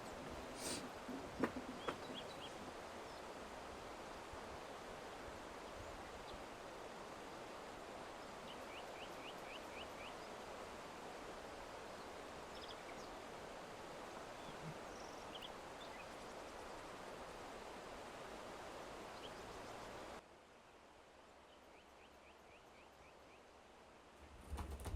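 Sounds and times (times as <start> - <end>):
steady outdoor hiss: 0.0 - 24.9.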